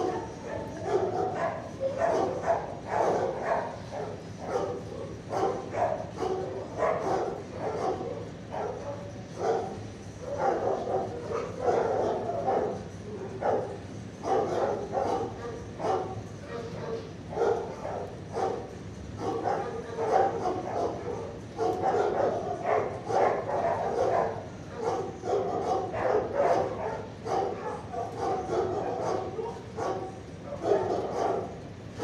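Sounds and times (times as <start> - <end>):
dogs barking and yipping: 0.0 - 32.0.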